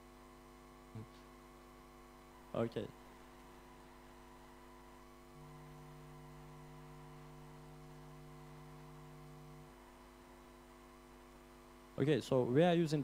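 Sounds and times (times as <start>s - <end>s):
low hum tone: 0.0s - 12.0s
faint electrical mains hum: 0.0s - 13.0s.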